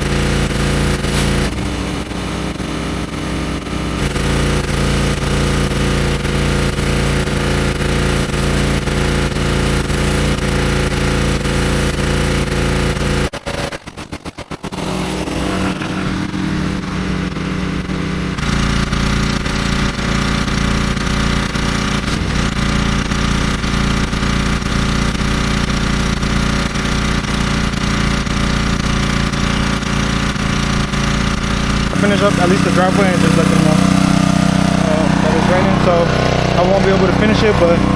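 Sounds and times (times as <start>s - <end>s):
high-pressure water spray hissing: 0.0s - 17.1s, 18.4s - 37.9s
pressure washer engine running: 0.0s - 37.9s.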